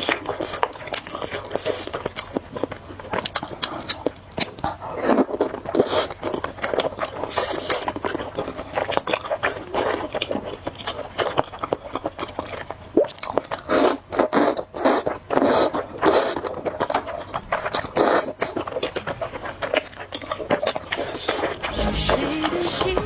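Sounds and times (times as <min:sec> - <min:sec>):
slurping and chewing noodles: 0:00.0 - 0:23.0.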